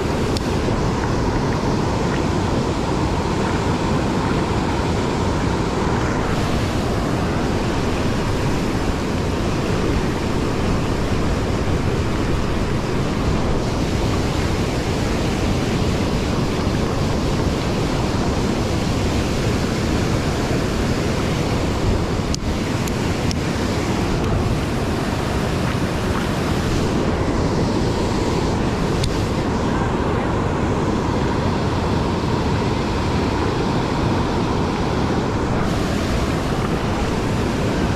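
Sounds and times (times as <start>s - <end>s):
river water roaring over weir: 0.0s - 37.9s.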